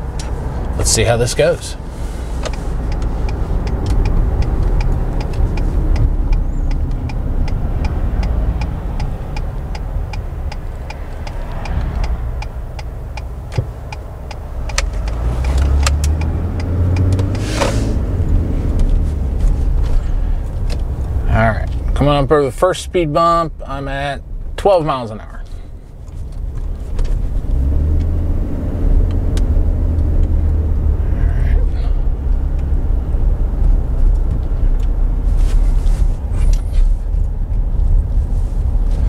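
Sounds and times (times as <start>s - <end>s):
road and engine rumble: 0.0s - 39.0s
turn signal ticking: 0.0s - 39.0s.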